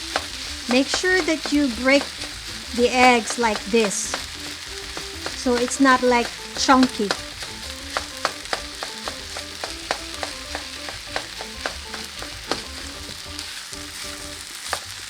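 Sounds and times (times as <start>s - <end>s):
fried rice sizzling in pan: 0.0s - 15.0s
spatula scraping pan: 0.0s - 15.0s.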